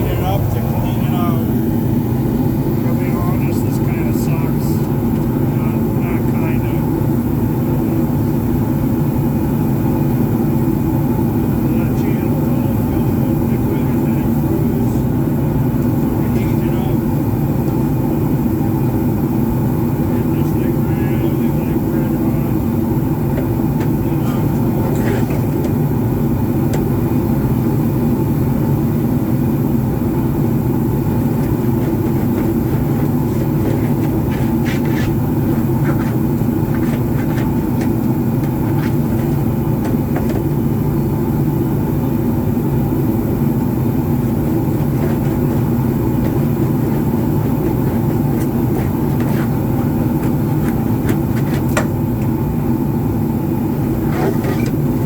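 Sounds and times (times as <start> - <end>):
baler machinery humming: 0.0 - 55.0.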